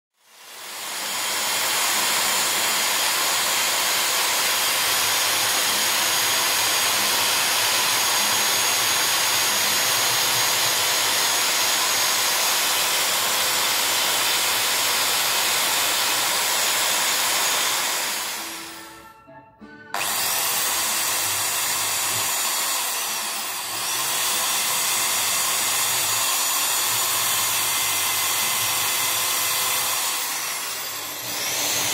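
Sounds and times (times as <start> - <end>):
electric drill polishing whir: 0.3 - 19.0, 19.9 - 31.9.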